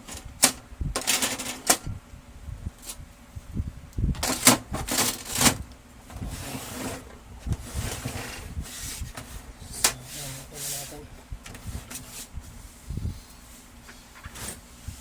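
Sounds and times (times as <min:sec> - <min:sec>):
printer mechanism rubbing and rattling: 0:00.0 - 0:01.8, 0:04.2 - 0:15.0.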